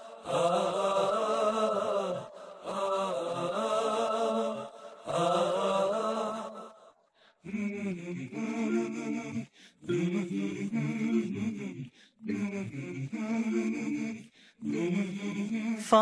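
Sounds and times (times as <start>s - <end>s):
a cappella male vocals: 0.0s - 6.8s, 7.4s - 16.0s.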